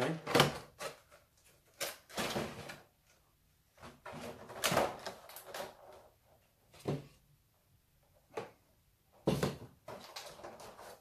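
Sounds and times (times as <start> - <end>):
plastic trays crinkling and knocking: 0.0 - 7.2, 8.2 - 11.0.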